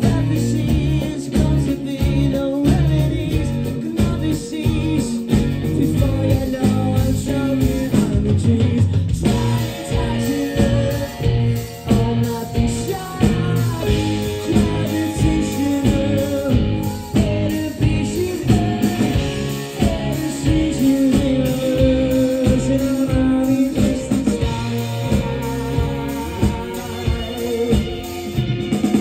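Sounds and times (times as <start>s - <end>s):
drums: 0.0s - 29.0s
electric bass: 0.0s - 29.0s
electric guitar: 0.0s - 29.0s
person singing: 0.0s - 29.0s.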